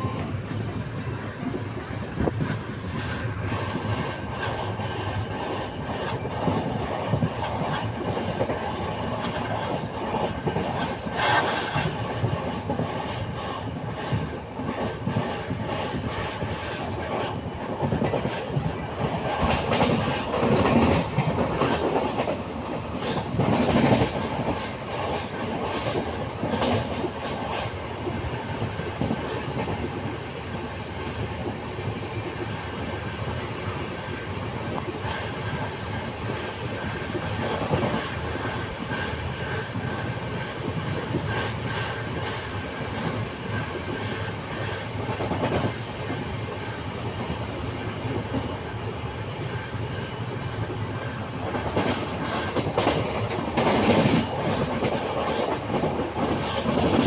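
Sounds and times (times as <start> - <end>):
rail joint clicks: 0.0 - 57.0
train wheels rumbling on rails: 0.0 - 57.0.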